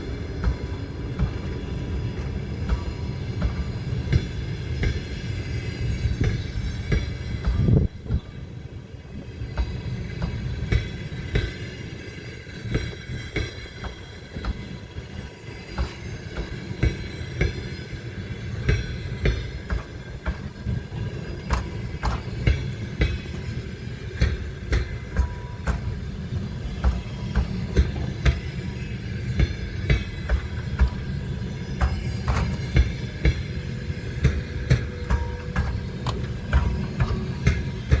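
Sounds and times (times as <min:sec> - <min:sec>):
train wheels rumbling and knocking: 0:00.0 - 0:38.0.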